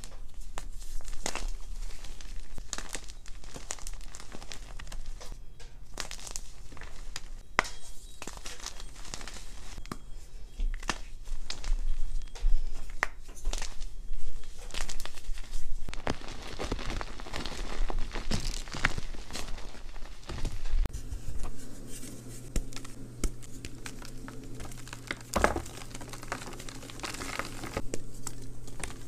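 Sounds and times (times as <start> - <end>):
hands crushing chalk: 0.0 - 10.1, 10.7 - 29.0.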